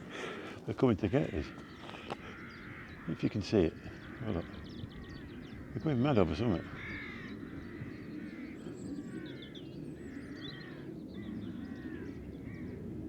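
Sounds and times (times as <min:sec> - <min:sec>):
crows cawing: 0:00.0 - 0:12.8.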